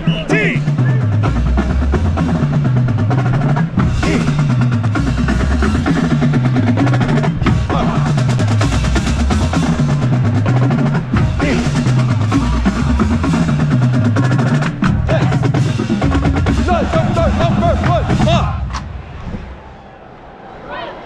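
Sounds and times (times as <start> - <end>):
snare and bass drums: 0.0 - 19.4.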